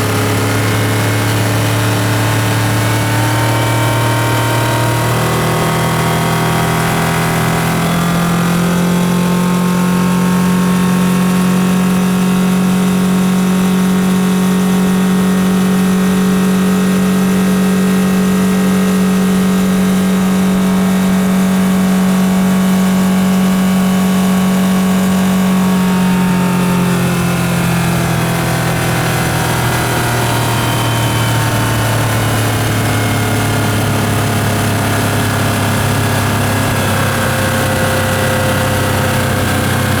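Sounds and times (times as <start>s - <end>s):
outboard engine revving: 0.0s - 40.0s.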